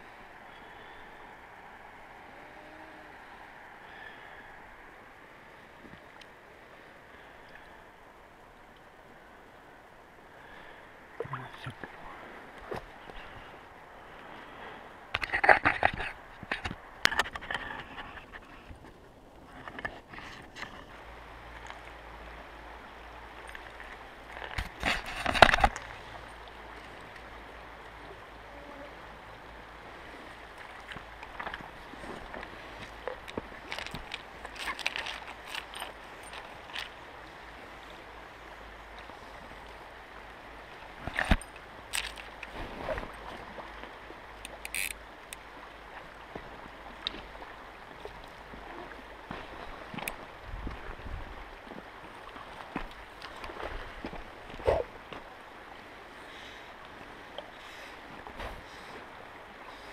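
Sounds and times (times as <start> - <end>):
river water flowing over cobbles: 0.0 - 59.9.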